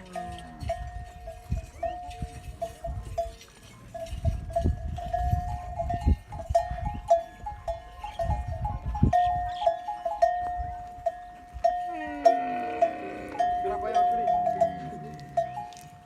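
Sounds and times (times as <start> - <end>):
animal neck bells clanking: 0.0 - 16.0.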